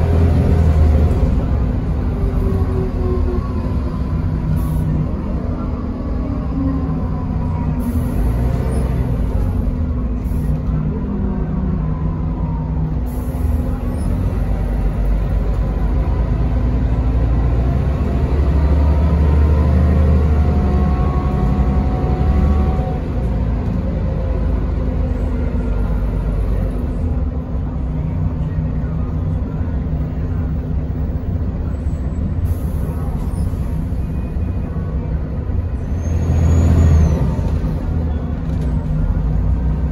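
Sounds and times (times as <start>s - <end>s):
bus engine low rumble: 0.0s - 39.9s.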